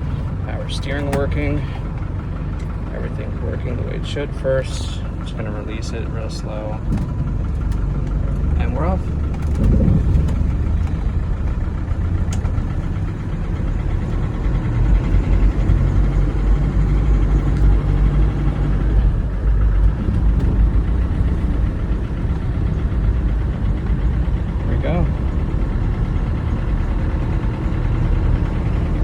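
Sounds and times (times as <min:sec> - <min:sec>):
engine pulling away slowly: 0:00.0 - 0:29.0.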